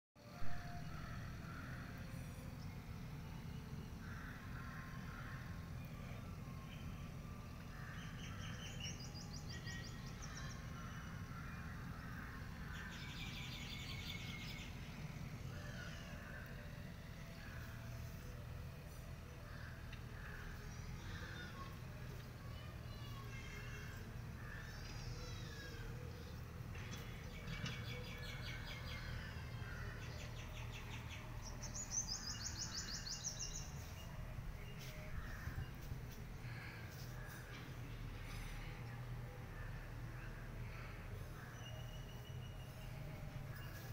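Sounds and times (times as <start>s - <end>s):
low steady rumble: 0.2s - 43.9s.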